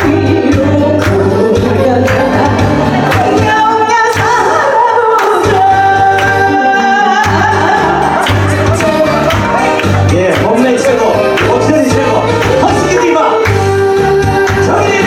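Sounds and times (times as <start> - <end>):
woman singing: 0.0 - 10.0, 12.5 - 15.0
backing track with bass pulse: 0.0 - 15.0.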